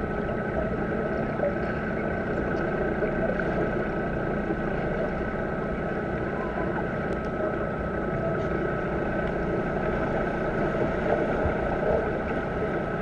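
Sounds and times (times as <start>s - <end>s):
faint steady hum: 0.0s - 13.0s
muffled underwater water churning: 0.0s - 13.0s.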